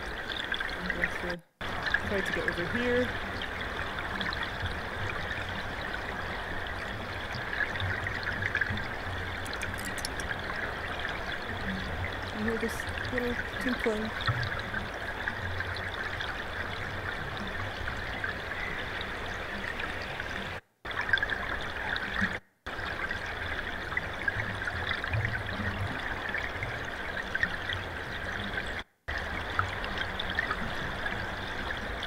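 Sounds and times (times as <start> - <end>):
river flowing: 0.0 - 32.0.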